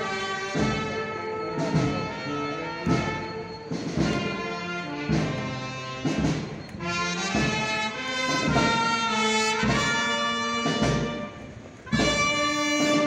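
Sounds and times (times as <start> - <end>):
brass band playing slow march: 0.0 - 13.0
drum beats: 0.0 - 13.0.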